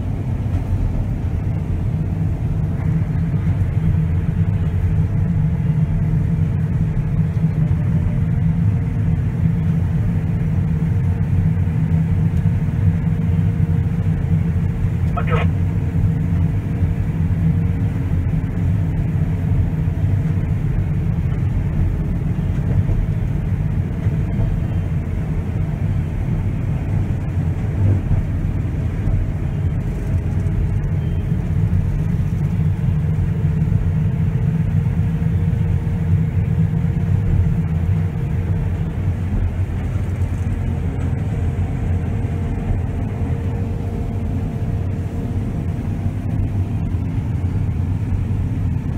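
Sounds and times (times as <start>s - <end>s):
combine harvester engine rumble: 0.0s - 48.9s.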